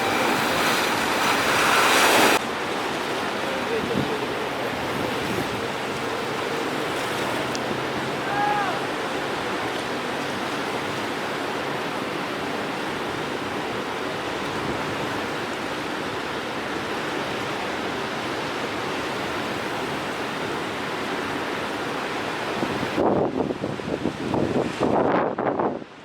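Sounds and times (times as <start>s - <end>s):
rough sea waves rushing: 0.0s - 26.0s.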